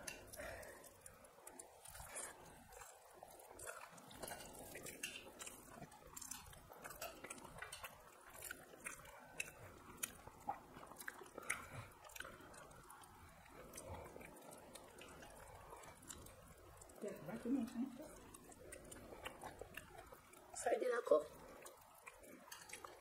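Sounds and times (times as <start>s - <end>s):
faint chewing and eating: 0.0s - 23.0s.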